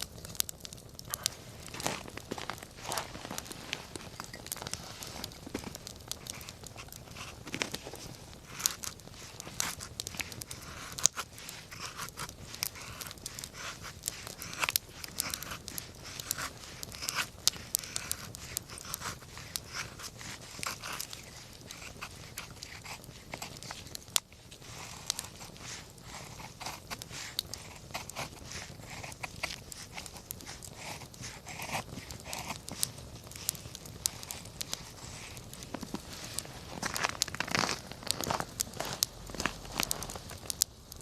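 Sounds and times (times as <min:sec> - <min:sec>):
soft hiss of fire: 0:00.0 - 0:41.0
wood fire crackling and popping: 0:00.0 - 0:41.0.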